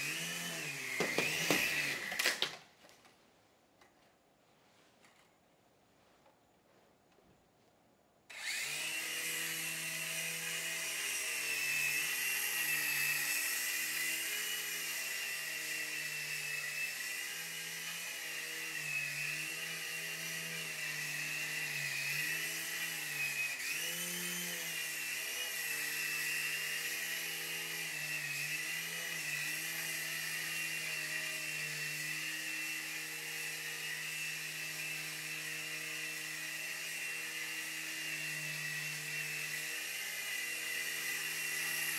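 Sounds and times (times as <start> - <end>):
electric motor whine: 0.0 - 2.2, 8.3 - 41.9
toy helicopter rotors whirring: 0.0 - 2.4, 8.3 - 41.9.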